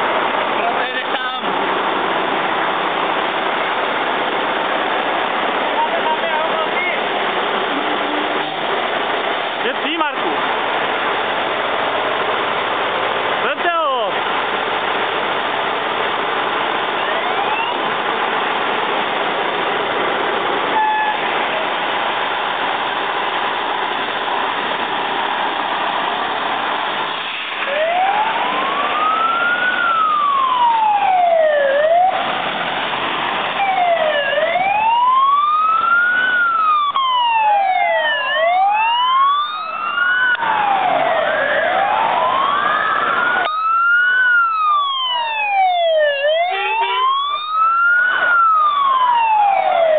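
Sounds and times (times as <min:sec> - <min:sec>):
fire engine sirens wailing: 0:00.0 - 0:49.9
vehicles rushing noise: 0:00.0 - 0:49.9.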